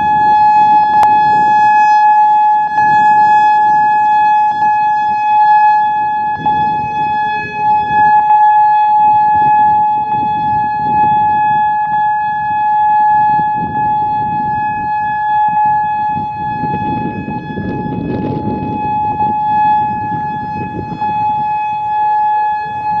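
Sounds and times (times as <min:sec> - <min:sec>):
electronic siren steady tone: 0:00.0 - 0:23.0.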